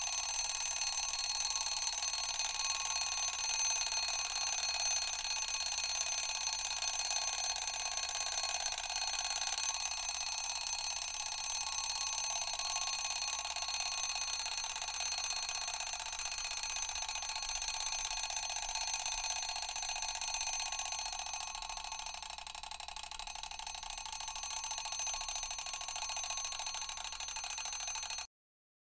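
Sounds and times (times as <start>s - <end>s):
mechanical alarm clock ringing: 0.0s - 28.3s.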